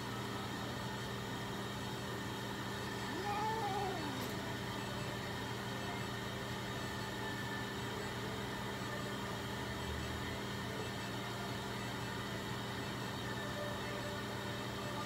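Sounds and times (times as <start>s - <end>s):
machine hum and whir: 0.0s - 15.0s.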